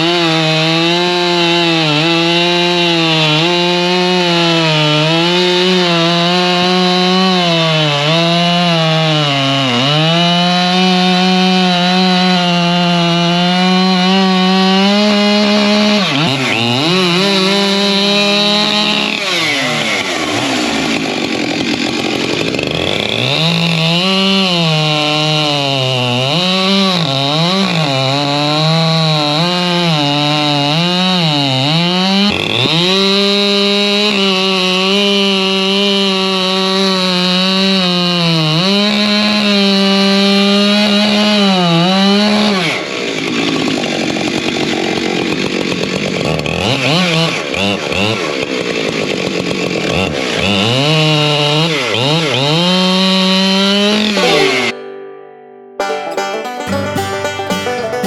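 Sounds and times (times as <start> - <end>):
chainsaw cutting wood: 0.0 - 55.1.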